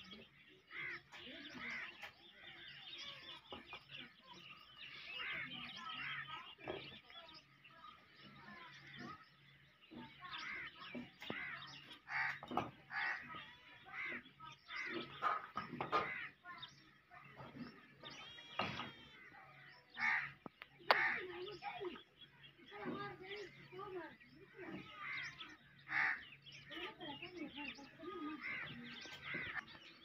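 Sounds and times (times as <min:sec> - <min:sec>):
birds chirping and calling: 0:00.0 - 0:30.0.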